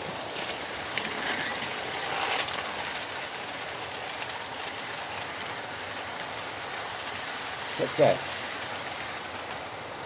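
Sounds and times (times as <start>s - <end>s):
model trains running on track: 0.0s - 10.0s.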